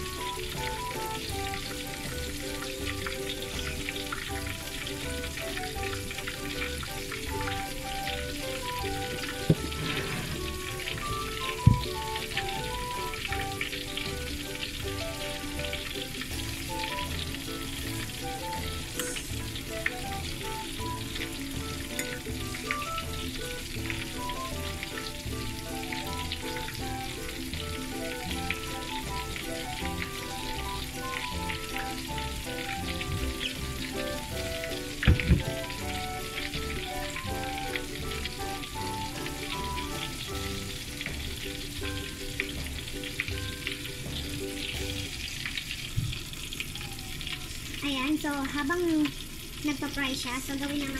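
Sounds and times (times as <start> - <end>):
shrimp deep-frying in oil: 0.0 - 50.9.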